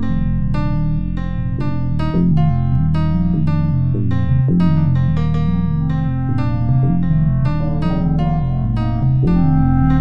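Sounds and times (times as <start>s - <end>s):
electronic keyboard melody: 0.0s - 10.0s
low bass line: 0.0s - 10.0s.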